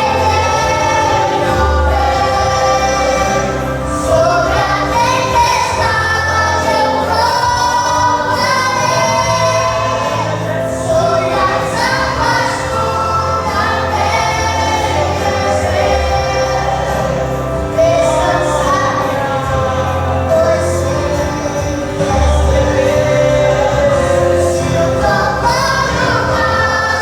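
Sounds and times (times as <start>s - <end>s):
choir singing with instruments: 0.0s - 27.0s
steady bass line: 0.0s - 27.0s.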